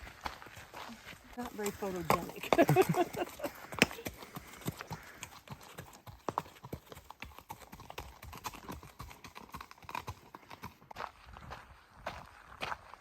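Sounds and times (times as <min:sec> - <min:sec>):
footsteps on a trail: 0:00.0 - 0:13.0.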